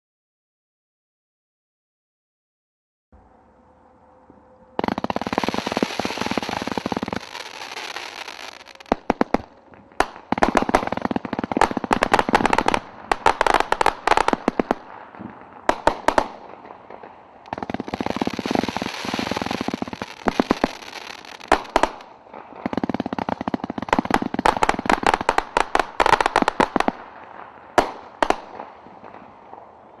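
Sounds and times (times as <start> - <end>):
sharp firework cracks: 4.8 - 29.7
firework crackling: 4.8 - 29.9.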